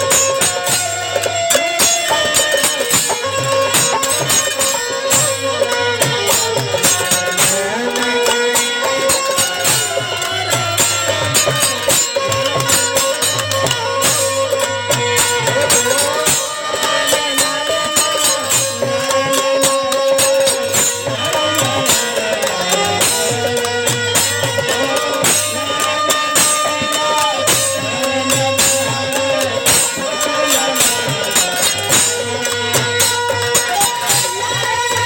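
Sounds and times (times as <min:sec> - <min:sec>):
drum strokes: 0:00.0 - 0:35.0.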